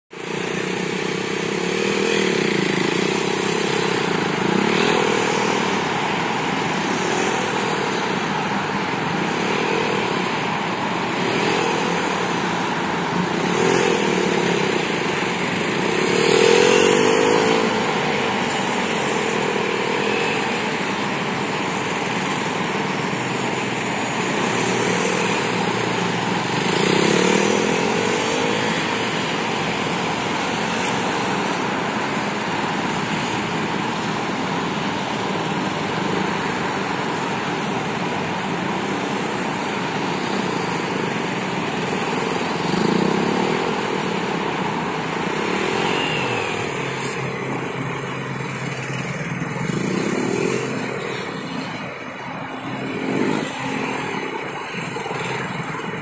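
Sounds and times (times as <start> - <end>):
motorcycle engine revving: 0.2 - 32.4, 34.2 - 56.0.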